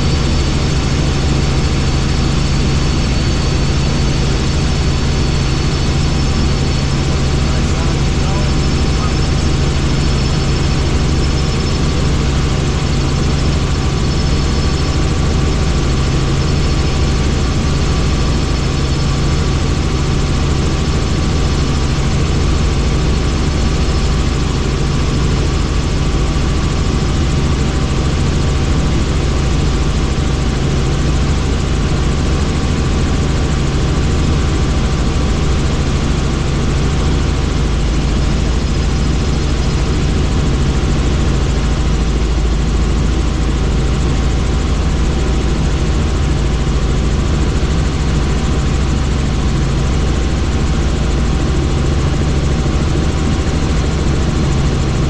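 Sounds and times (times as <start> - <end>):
helicopter rotor and engine drone: 0.0 - 55.0.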